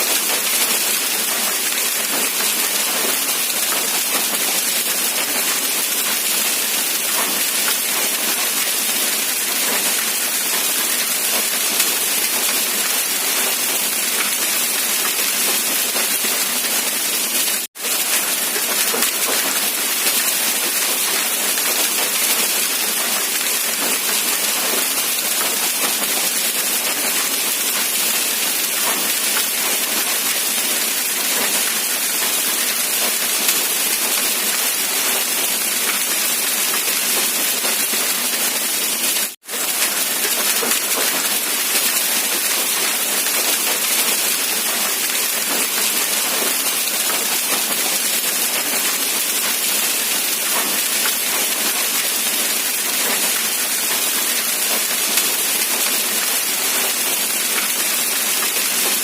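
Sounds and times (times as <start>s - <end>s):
dense rain hiss: 0.0s - 59.0s.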